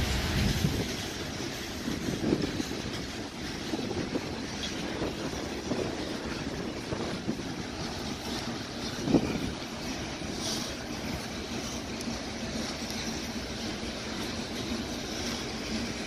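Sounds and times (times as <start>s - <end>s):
freight train wheels rumbling: 0.0s - 16.0s
train cars clanking: 0.0s - 16.0s.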